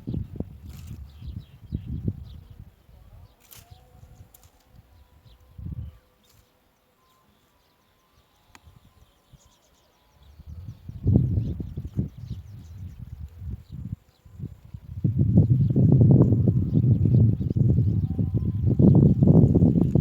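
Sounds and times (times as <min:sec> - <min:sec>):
wind rumble on microphone: 0:00.0 - 0:06.1, 0:08.5 - 0:09.5, 0:10.2 - 0:20.0.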